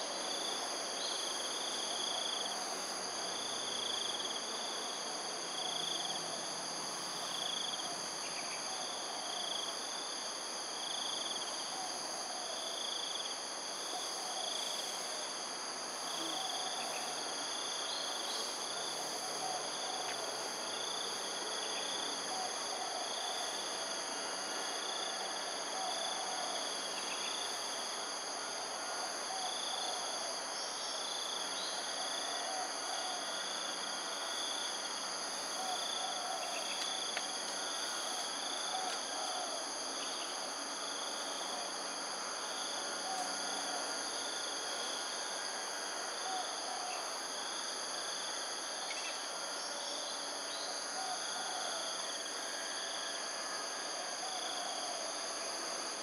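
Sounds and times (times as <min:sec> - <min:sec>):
insect chirp: 0:00.0 - 0:56.0
lower insect call: 0:00.0 - 0:56.0
high-pitched insect whines: 0:10.8 - 0:56.0.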